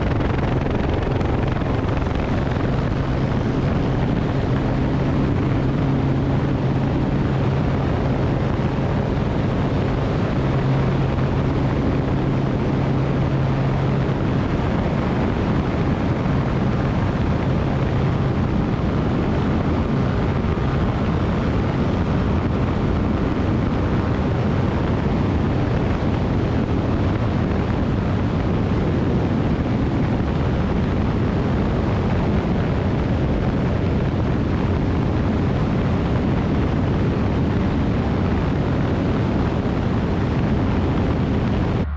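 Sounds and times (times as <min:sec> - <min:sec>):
engine running: 0:00.0 - 0:41.9
wind noise on microphone: 0:00.0 - 0:41.9.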